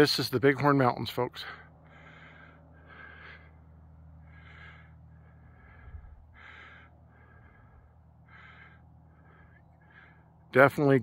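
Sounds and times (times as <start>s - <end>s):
faint low hum: 0.0s - 11.0s
person breathing: 1.4s - 10.5s.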